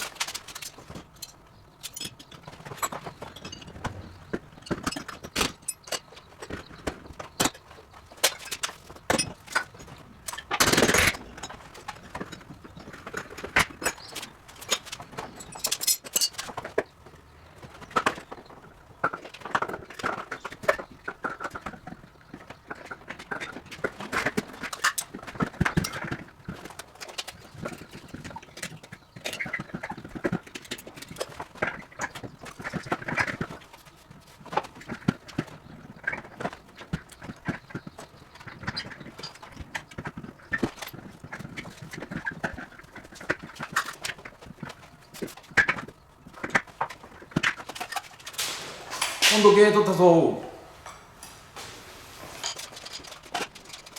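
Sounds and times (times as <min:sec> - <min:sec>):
knocks and clattering: 0:00.0 - 0:49.4, 0:50.8 - 0:53.9.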